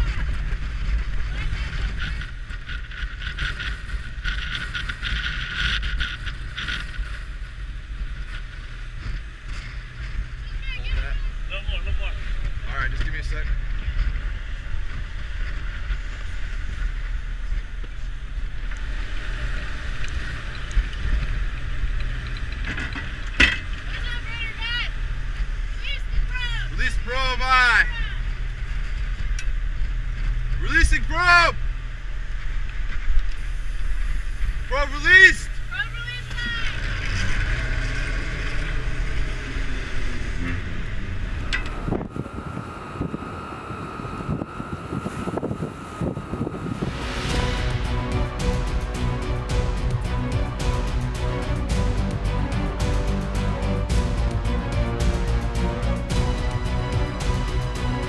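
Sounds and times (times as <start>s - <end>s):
faint steady whine: 0.0s - 50.2s
low machinery rumble: 0.0s - 58.0s
rushing wind and water: 0.0s - 58.0s.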